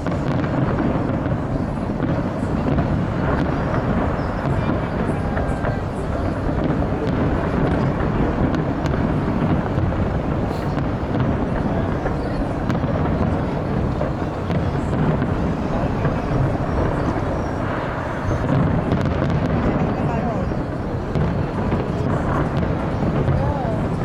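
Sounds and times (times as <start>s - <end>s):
crowd noise: 0.0s - 24.0s
distant fireworks rumble: 0.0s - 24.0s.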